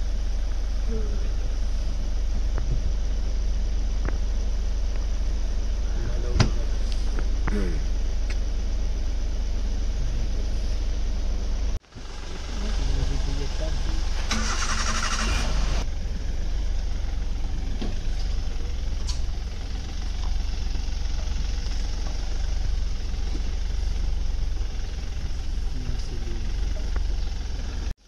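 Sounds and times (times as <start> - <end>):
vehicle engine low rumble: 0.0 - 28.0.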